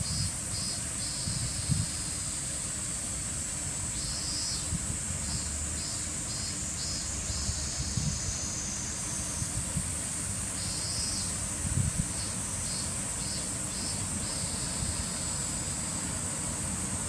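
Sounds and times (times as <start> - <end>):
high-pitched hiss: 0.0 - 17.0
insects chirping: 0.0 - 17.0.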